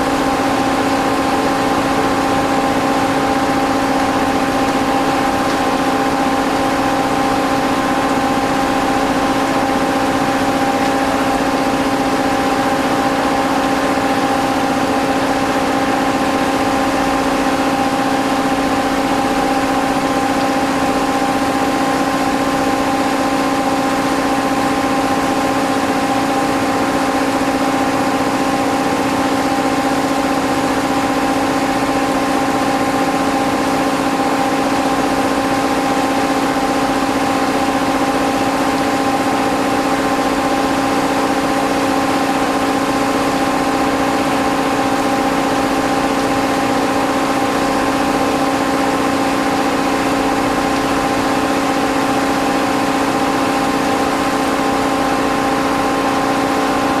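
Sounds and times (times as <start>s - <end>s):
machine hum with constant tones: 0.0s - 57.0s.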